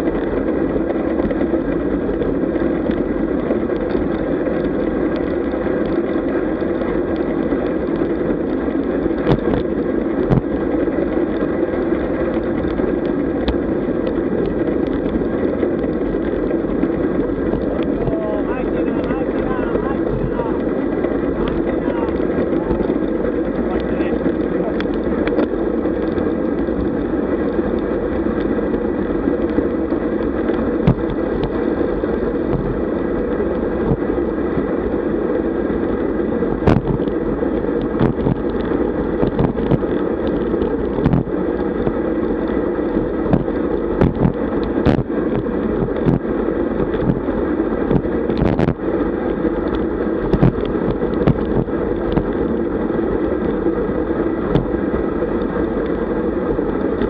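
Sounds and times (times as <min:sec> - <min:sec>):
bike tyres on dirt road: 0:00.0 - 0:57.0
wind rushing over microphone: 0:00.0 - 0:57.0.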